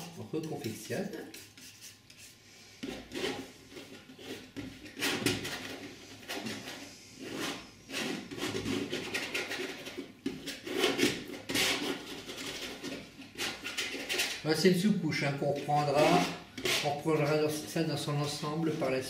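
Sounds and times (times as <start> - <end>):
palette knife scraping paint: 0.0 - 19.0.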